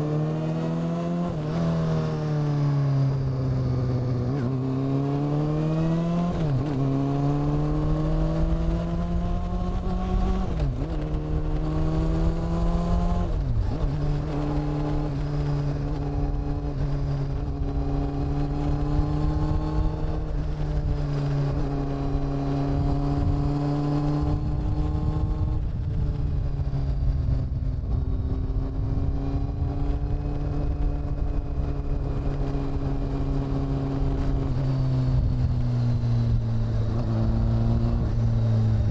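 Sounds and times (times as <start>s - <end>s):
motorcycle engine accelerating and cruising: 0.0s - 38.9s.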